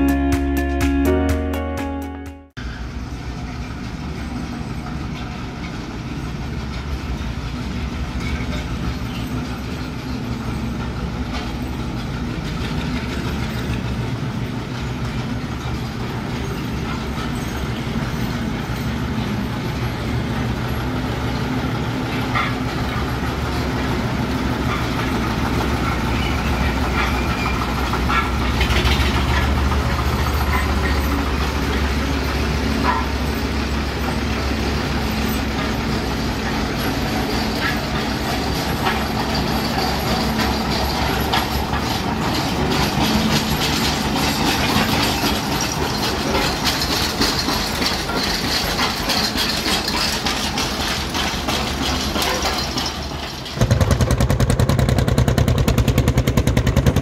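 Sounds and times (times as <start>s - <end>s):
tractor engines rumbling: 2.6s - 57.0s.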